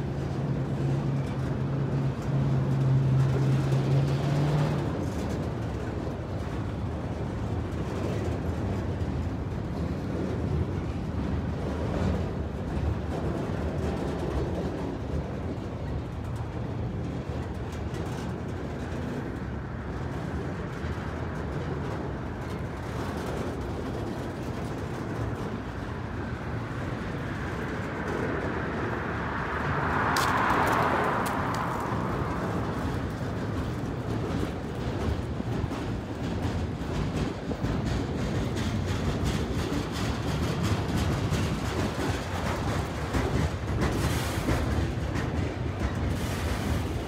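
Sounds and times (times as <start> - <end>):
freight train wheels rumbling on rail: 0.0 - 47.0.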